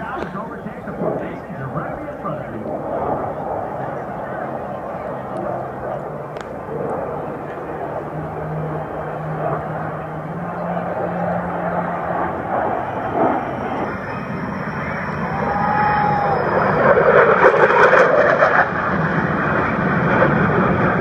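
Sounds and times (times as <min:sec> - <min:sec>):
jet aircraft flying past: 0:00.0 - 0:21.0.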